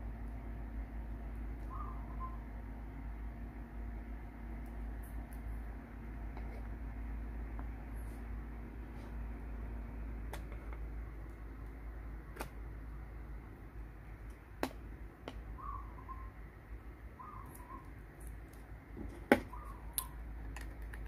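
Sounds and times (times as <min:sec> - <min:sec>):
computer fan humming: 0:00.0 - 0:21.0.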